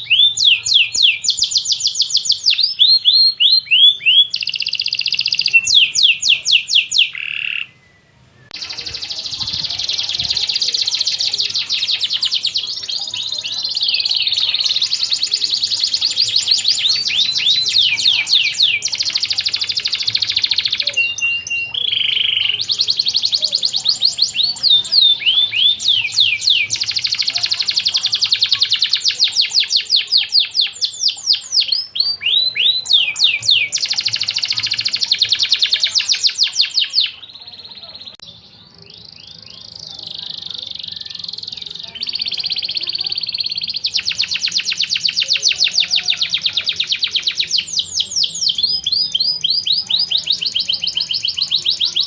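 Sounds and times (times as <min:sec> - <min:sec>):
canary singing: 0:00.0 - 0:52.0.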